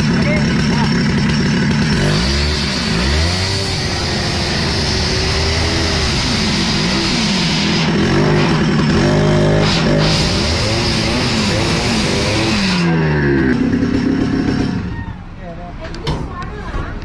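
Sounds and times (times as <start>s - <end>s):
cut-off saw engine: 0.0s - 15.3s.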